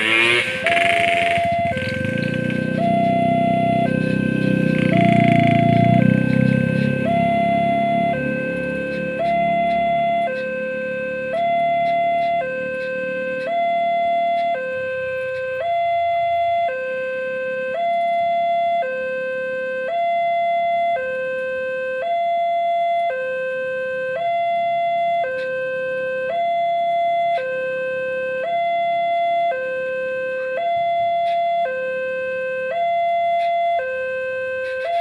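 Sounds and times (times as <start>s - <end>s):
level-crossing two-tone alarm: 0.0s - 35.0s.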